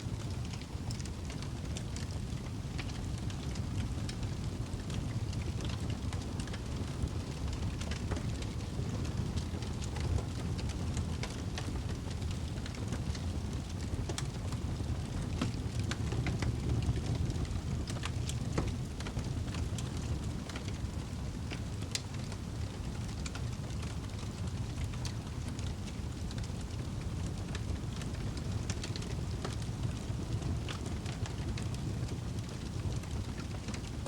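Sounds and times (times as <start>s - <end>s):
fire crackling and popping: 0.0s - 34.0s
fire rumbling in a fireplace: 0.0s - 34.0s.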